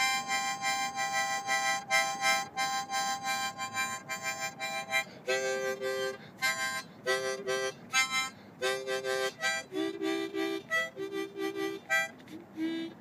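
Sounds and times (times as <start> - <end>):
harmonica chords: 0.0 - 13.0.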